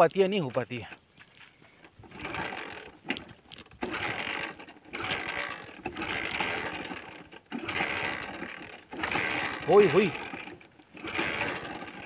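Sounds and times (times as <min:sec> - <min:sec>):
motorcycle engine cranking: 0:01.7 - 0:12.0.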